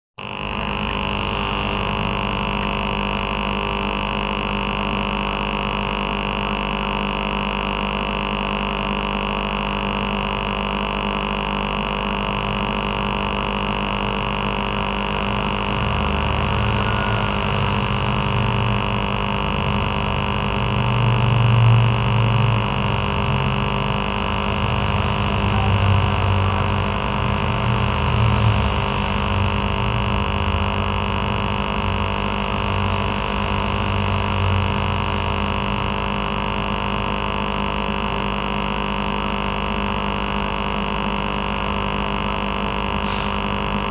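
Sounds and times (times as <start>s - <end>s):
air pump humming: 0.2s - 43.9s.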